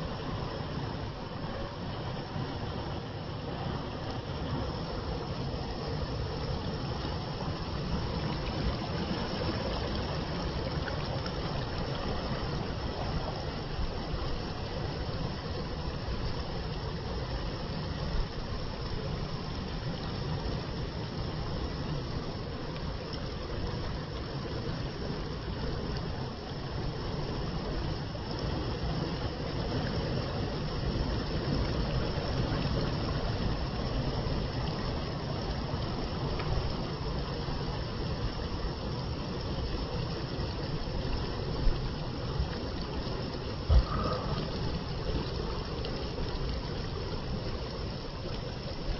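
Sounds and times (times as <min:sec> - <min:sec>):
water flowing: 0:00.0 - 0:48.9.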